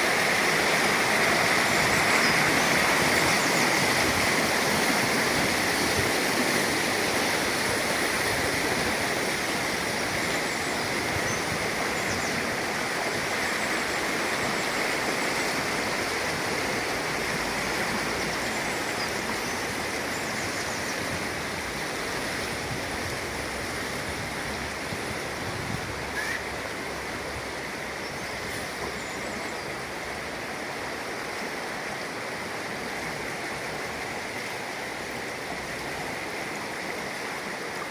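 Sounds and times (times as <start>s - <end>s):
running water: 0.0s - 37.9s.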